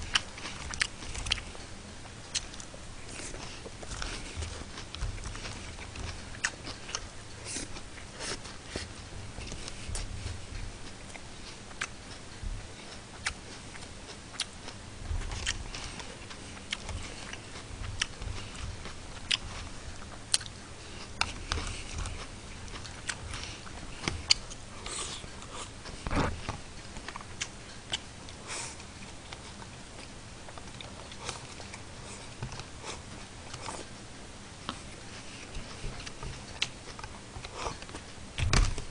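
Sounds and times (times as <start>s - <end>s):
chewing and eating: 0.0s - 38.9s.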